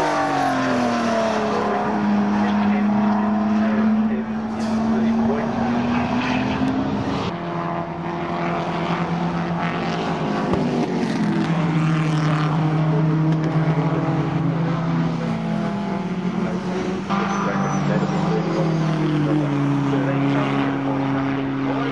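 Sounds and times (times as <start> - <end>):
racing car engines passing: 0.0 - 21.9.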